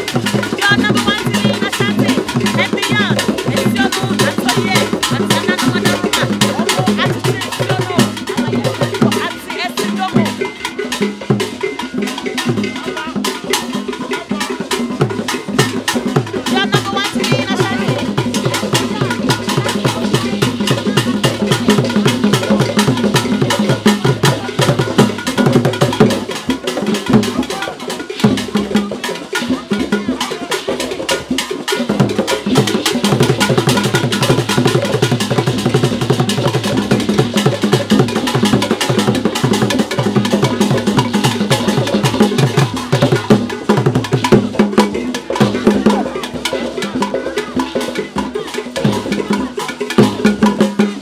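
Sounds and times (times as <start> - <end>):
hand drums playing fast rhythm: 0.0 - 51.0.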